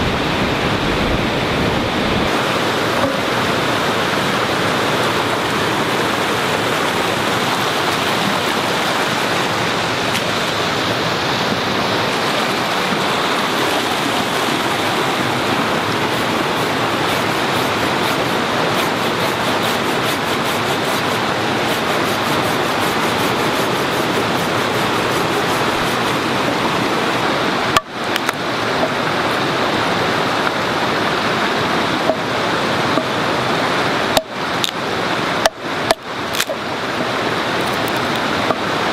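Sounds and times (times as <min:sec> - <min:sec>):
stream cascading over rocks: 0:00.0 - 0:38.9.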